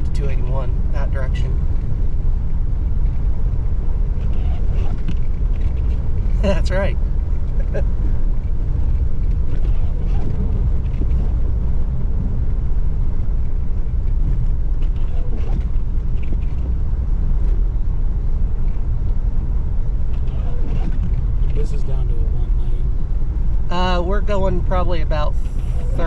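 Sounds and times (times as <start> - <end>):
car driving interior rumble: 0.0 - 26.0.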